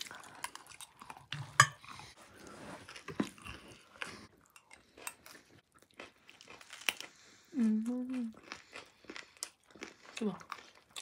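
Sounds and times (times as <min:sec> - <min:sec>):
chewing and crunching snack: 0:00.0 - 0:11.0.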